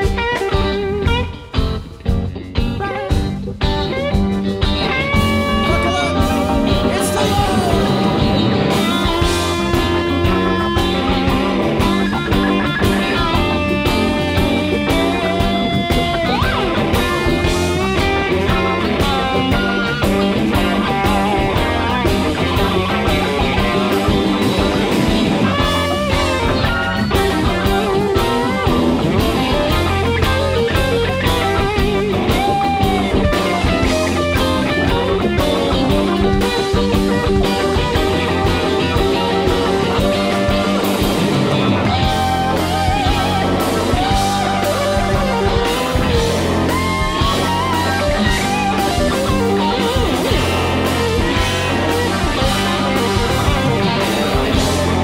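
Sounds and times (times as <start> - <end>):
bass guitar: 0.0 - 55.0
drum kit: 0.0 - 55.0
electric guitar solo: 0.0 - 55.0.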